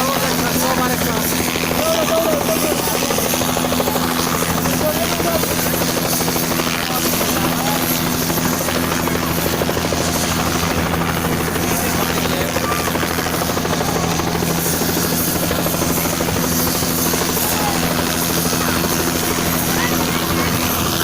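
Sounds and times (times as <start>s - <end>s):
helicopter turbine and rotor: 0.0s - 21.0s.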